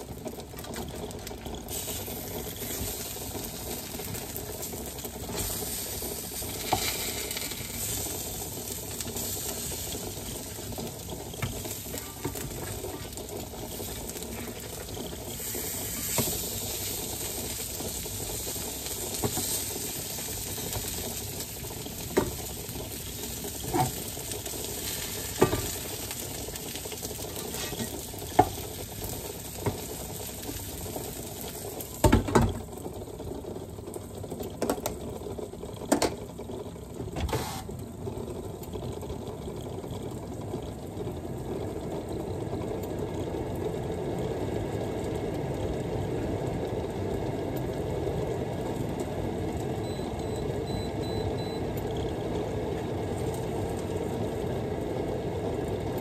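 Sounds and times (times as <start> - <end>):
fish sizzling in a frying pan: 0.0 - 56.0
water boiling in a saucepan: 0.0 - 56.0.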